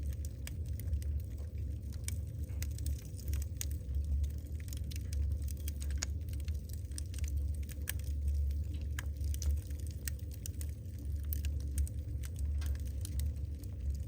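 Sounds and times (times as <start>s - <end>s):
low rumble: 0.0s - 14.0s
wood fire crackling: 0.0s - 14.0s.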